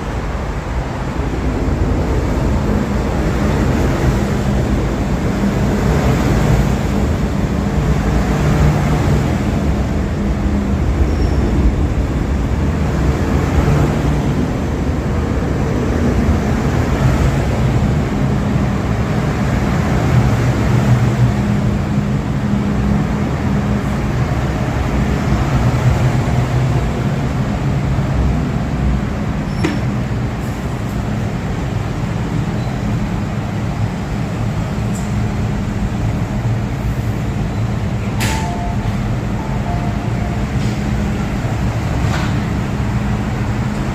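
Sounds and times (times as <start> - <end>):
electric train rumbling: 0.0 - 43.9
train motor hum: 0.0 - 43.9.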